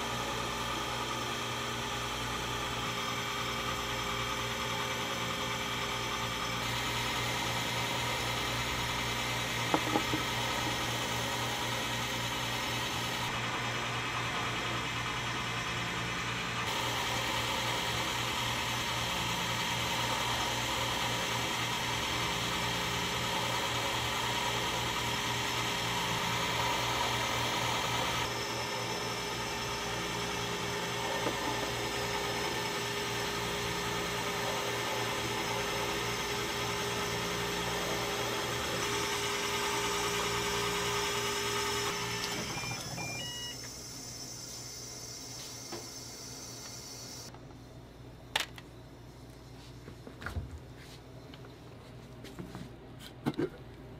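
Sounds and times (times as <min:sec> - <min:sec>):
ice-shaving machine running: 0:00.0 - 0:47.3.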